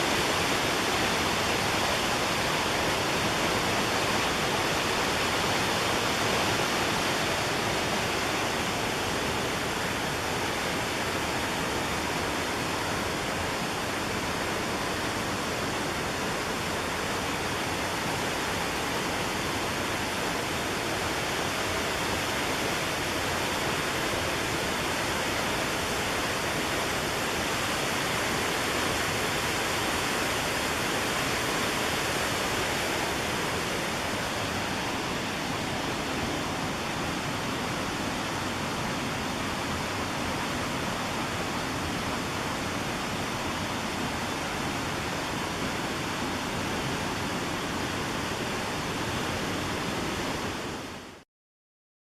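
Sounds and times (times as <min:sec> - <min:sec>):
water roaring over rocks: 0:00.0 - 0:51.2.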